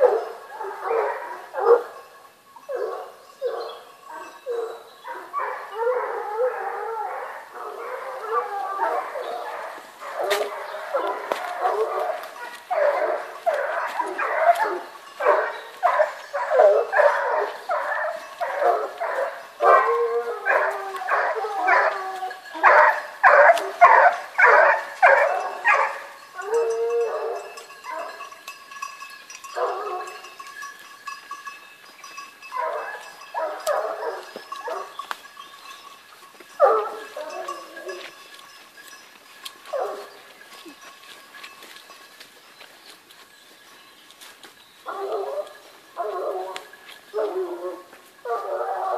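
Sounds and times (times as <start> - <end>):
hunting dogs baying: 0.0 - 31.4, 32.1 - 42.7, 44.8 - 48.9.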